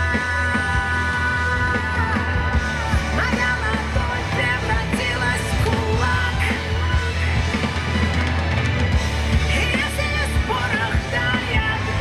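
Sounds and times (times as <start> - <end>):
live band music over sound system: 0.0 - 12.0
strong bass: 0.0 - 12.0.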